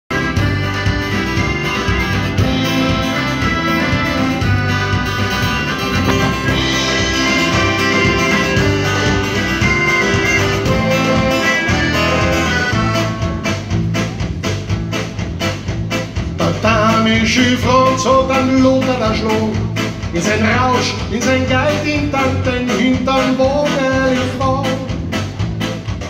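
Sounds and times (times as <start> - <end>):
live band playing: 0.1 - 26.0.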